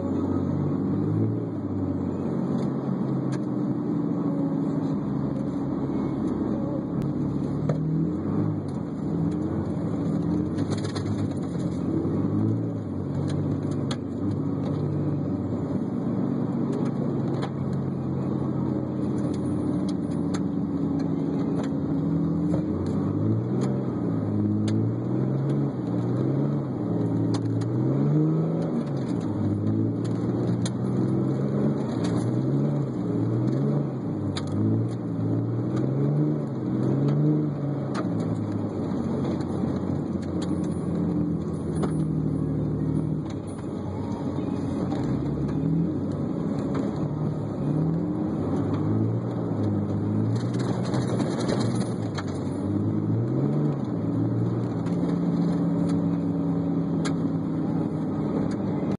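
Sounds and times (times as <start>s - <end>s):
tyre and road noise: 0.0s - 58.9s.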